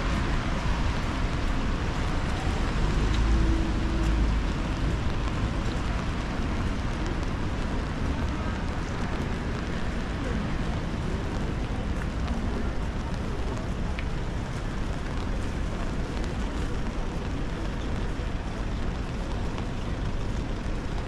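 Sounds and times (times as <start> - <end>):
traffic on wet road: 0.0 - 21.0.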